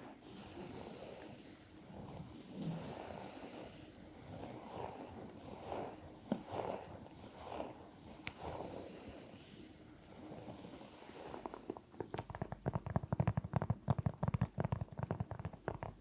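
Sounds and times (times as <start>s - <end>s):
soft scratching and rubbing: 0.0s - 16.0s.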